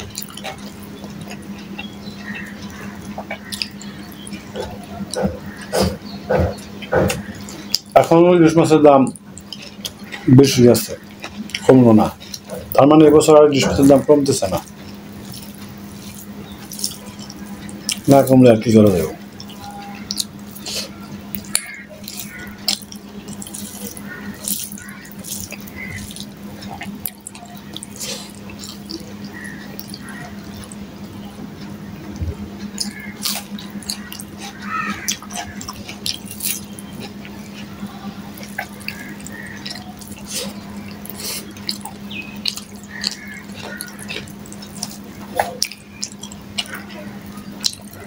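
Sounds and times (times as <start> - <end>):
wet chewing and mouth clicks: 0.0 - 48.0.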